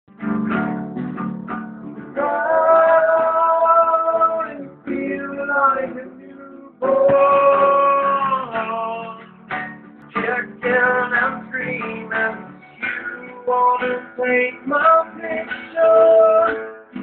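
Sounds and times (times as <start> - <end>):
guitar playing: 0.1 - 17.0.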